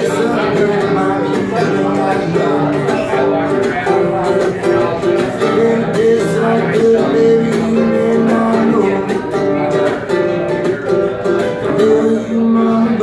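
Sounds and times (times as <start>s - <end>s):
acoustic guitar: 0.0s - 13.0s
mandolin picking: 0.0s - 13.0s.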